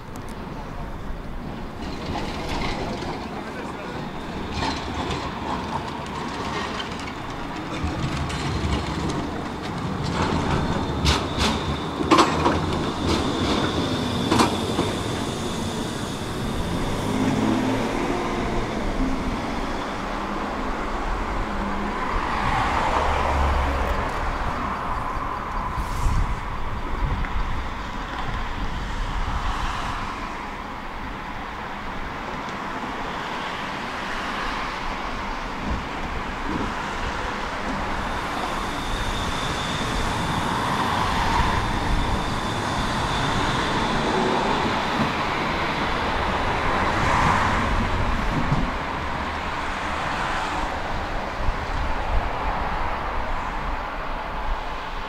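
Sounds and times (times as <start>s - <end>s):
city traffic noise: 0.0s - 55.0s
electric tram humming and pulling away: 0.0s - 55.0s.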